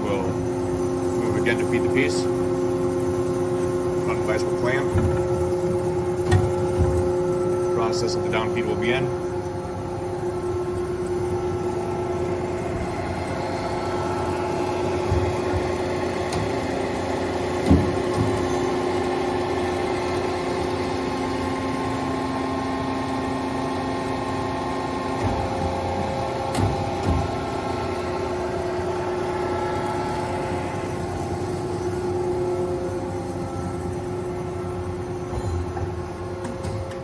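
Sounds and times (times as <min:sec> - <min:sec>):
low machine tone: 0:00.0 - 0:37.0.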